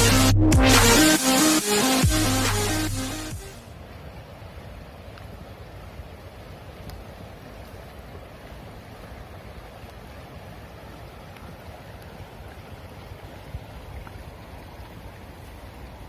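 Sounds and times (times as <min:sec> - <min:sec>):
river water rushing: 0:00.8 - 0:16.0.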